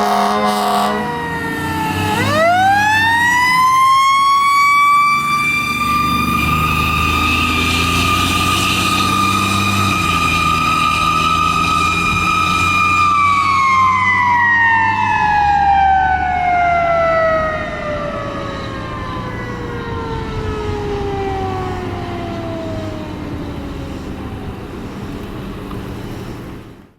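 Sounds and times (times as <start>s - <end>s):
mechanical siren wailing: 0.0s - 24.8s
diesel engine rumble: 0.0s - 26.9s.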